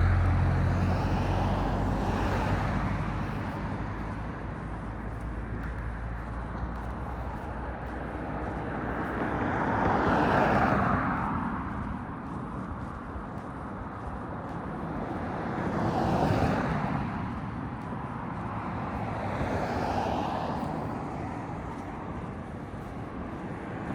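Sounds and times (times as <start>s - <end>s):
car passing: 0.0s - 23.9s.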